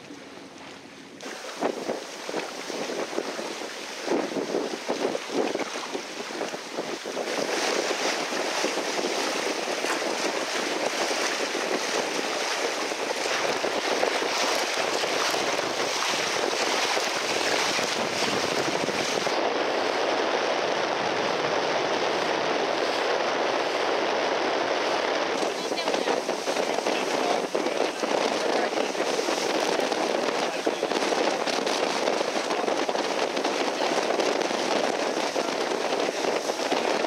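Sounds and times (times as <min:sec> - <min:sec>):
water rushing along hull: 0:00.0 - 0:37.0
wind buffeting microphone: 0:00.0 - 0:37.0.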